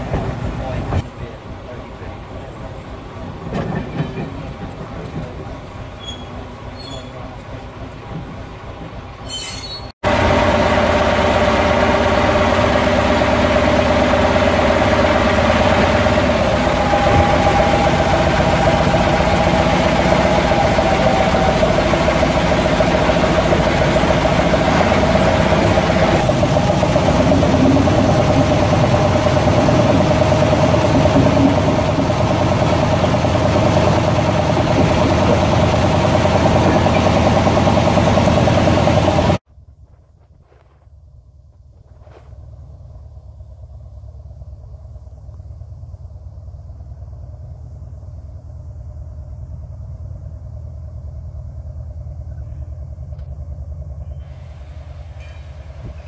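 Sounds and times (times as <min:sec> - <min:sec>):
diesel locomotive engine running: 0:00.0 - 0:56.0
train on rails: 0:00.0 - 0:56.0.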